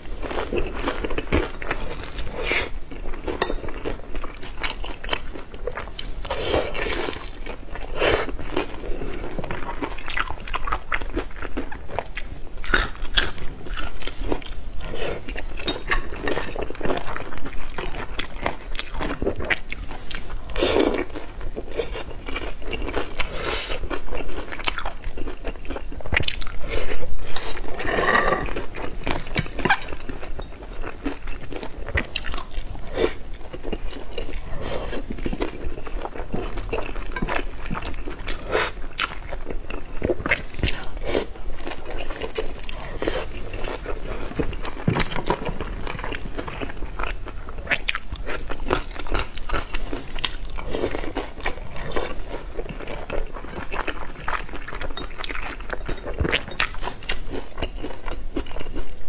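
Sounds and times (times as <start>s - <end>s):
close chewing with wet smacks: 0.2s - 27.9s, 28.5s - 59.0s.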